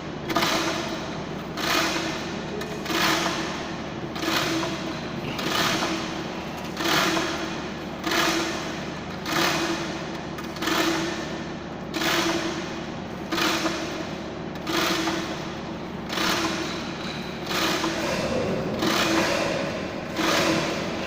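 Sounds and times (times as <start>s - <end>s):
chain hoist clattering and ratcheting: 0.3s - 11.3s, 11.9s - 21.0s.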